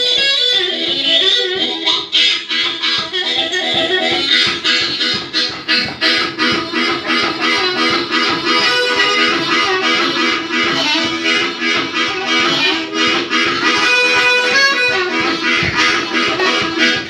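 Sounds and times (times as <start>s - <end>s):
blues band playing: 0.0s - 17.0s
harmonica lead: 0.0s - 17.0s.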